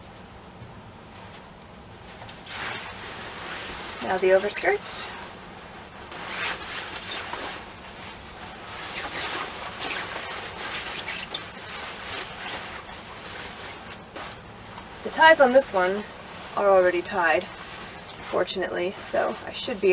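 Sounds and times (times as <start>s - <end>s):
stiff fabric rustling: 1.0s - 19.9s.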